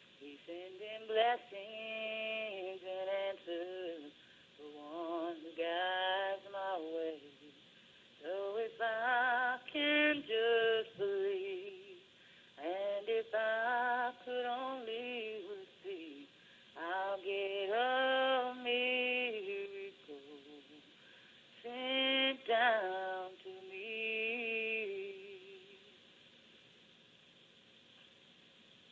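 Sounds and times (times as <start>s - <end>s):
person singing with vibrato: 0.0s - 7.6s, 8.2s - 26.0s.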